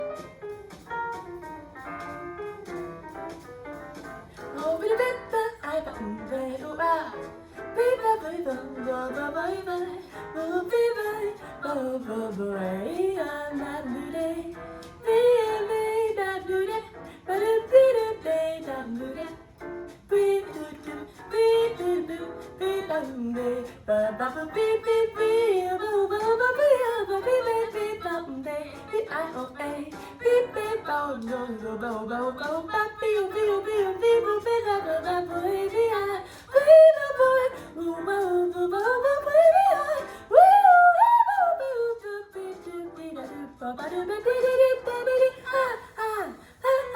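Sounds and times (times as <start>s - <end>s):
light instrumental accompaniment: 0.0s - 46.9s.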